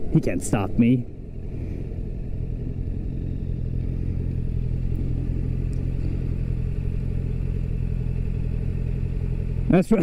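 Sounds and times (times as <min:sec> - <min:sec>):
motorcycle engines idling: 0:00.0 - 0:10.0.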